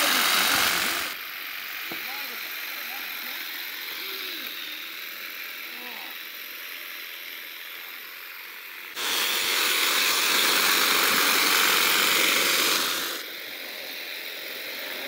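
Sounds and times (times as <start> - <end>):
lawnmower blade cutting grass: 0.0 - 15.0.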